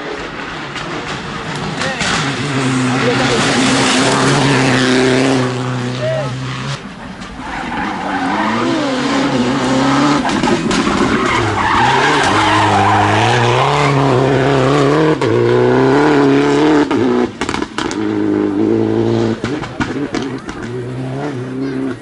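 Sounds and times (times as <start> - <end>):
rally car engine revving: 0.0 - 22.0
tyres skidding: 0.0 - 22.0.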